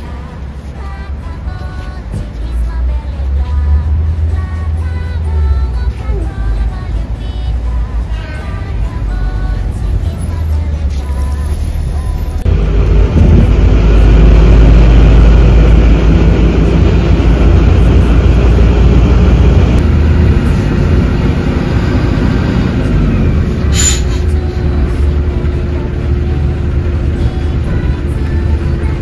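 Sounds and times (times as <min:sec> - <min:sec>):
bus engine and tyres rumbling: 0:00.0 - 0:29.0.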